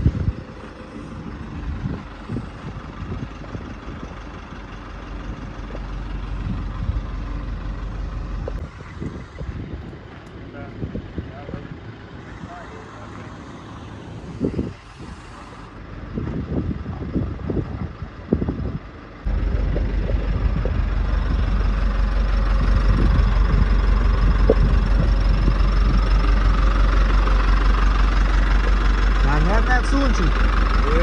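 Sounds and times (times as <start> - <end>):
low thumps and rumble: 0.0 - 11.7, 14.2 - 31.0
truck engine running: 0.0 - 31.0.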